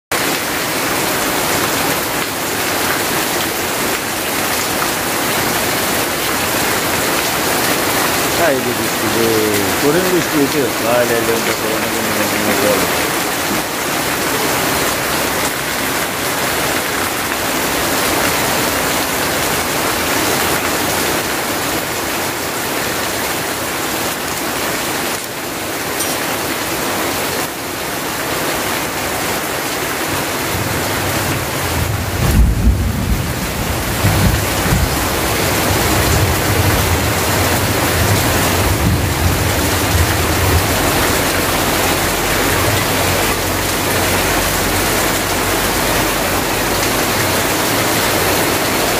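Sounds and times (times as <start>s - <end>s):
heavy rain falling: 0.1s - 48.9s.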